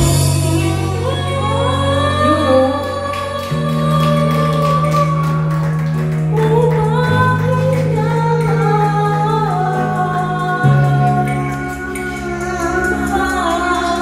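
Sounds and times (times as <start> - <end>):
amplified music with bass: 0.0 - 14.0.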